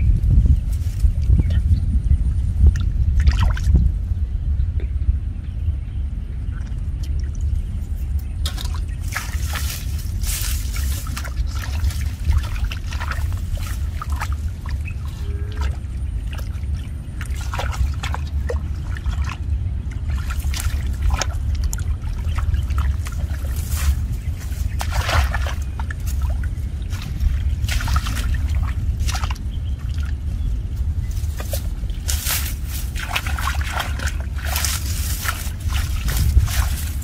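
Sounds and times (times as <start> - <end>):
steady low rumble: 0.0 - 37.0
water trickling and splashing: 2.6 - 3.9, 6.5 - 37.0.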